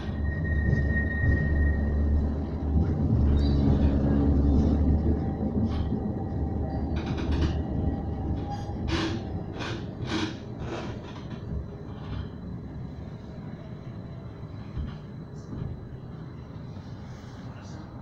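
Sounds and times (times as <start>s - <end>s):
tram rumbling on track: 0.0s - 18.0s.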